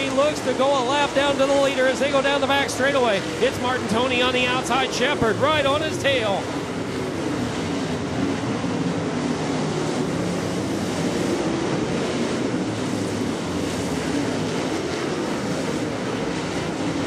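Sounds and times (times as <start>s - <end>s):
race car engines roaring: 0.0s - 17.0s.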